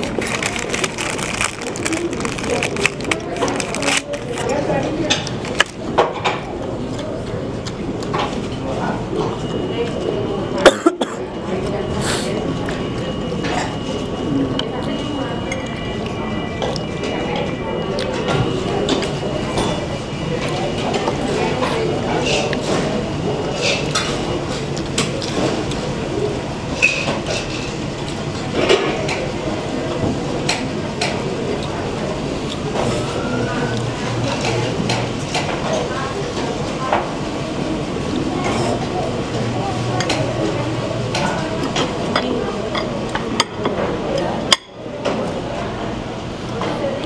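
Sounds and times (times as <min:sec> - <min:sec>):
dining room chatter: 0:00.0 - 0:47.0
restaurant background noise: 0:00.0 - 0:47.0.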